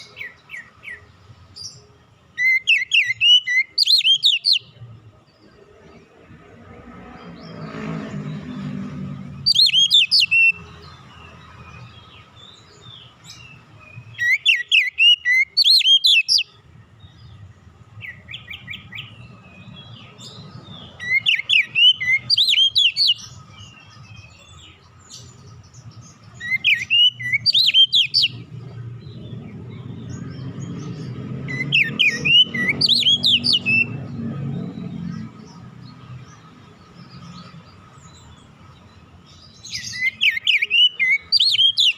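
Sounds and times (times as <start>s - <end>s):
bird singing chirps and whistles: 0.0s - 4.8s, 9.3s - 17.3s, 18.0s - 41.9s.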